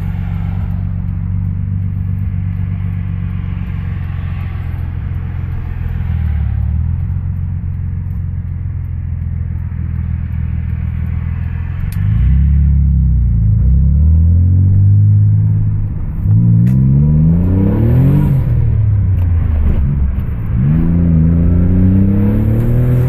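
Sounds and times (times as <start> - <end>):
car exhaust drone: 0.0 - 23.0.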